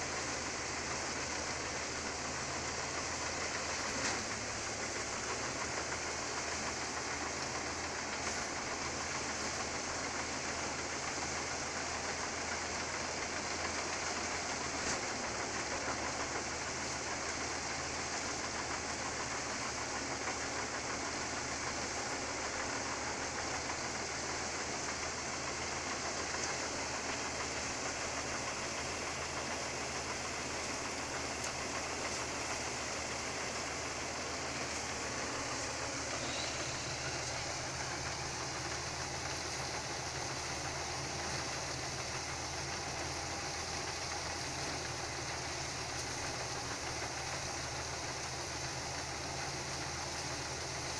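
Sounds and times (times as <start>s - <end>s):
threshing machine engine hum: 0.0s - 50.9s.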